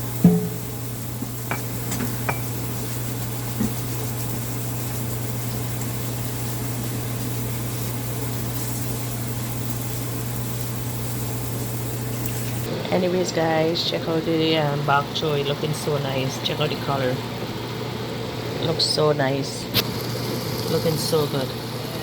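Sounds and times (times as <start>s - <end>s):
faint sizzling: 0.0s - 22.0s.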